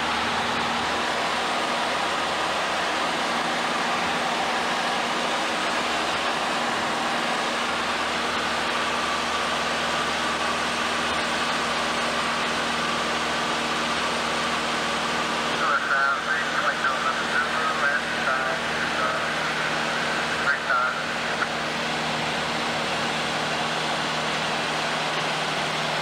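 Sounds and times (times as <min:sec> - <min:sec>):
light aircraft engine drone: 0:00.0 - 0:26.0.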